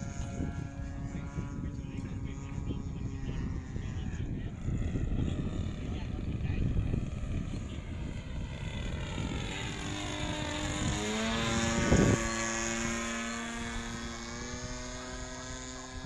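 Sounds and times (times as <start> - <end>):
model plane engine flying past: 0.0 - 16.0.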